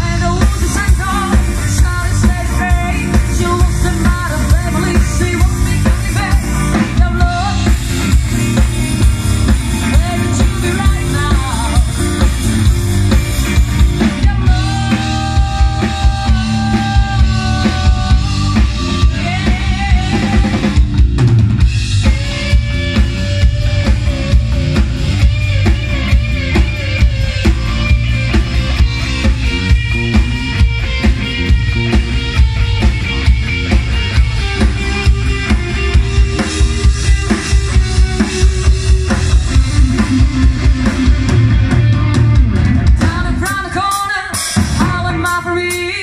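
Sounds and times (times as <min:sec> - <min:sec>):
drum kit beat: 0:00.0 - 0:46.0
electric guitars: 0:00.0 - 0:46.0.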